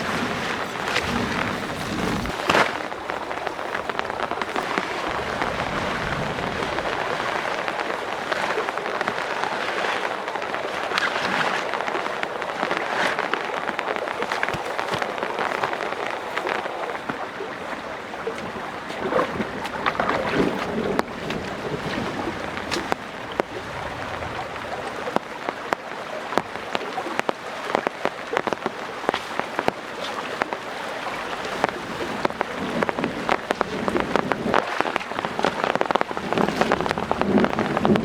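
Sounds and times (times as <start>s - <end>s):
heavy rain falling: 0.0s - 38.0s
raindrops ticking on hard surface: 0.0s - 38.0s.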